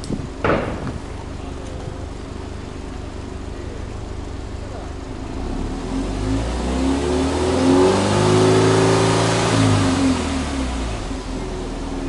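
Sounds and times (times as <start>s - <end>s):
car engine revving: 0.9s - 12.0s.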